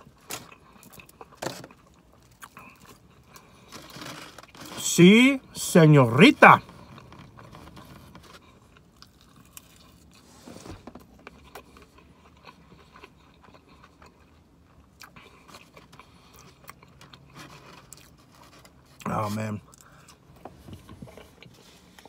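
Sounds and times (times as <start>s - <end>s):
chewing fries: 0.0s - 22.0s.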